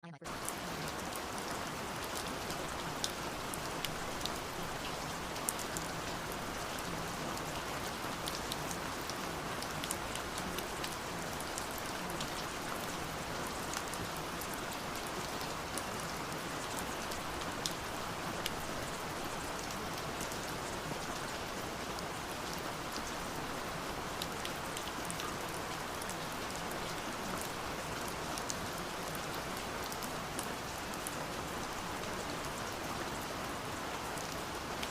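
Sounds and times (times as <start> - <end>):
raindrops ticking on a surface: 0.2 - 34.9
steady rain falling: 0.2 - 34.9.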